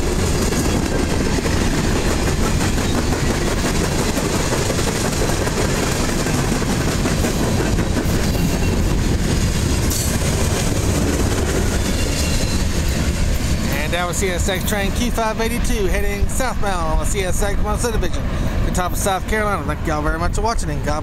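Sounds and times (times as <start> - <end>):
freight train wheels on rails: 0.0 - 21.0.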